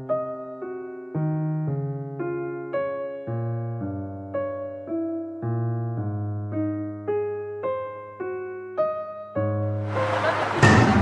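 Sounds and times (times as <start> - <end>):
slow keyboard melody: 0.0 - 11.0.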